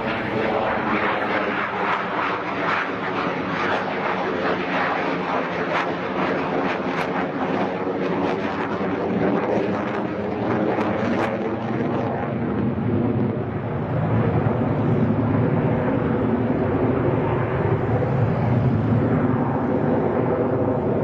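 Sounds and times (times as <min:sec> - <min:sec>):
jet fighter roaring overhead: 0:00.0 - 0:21.0.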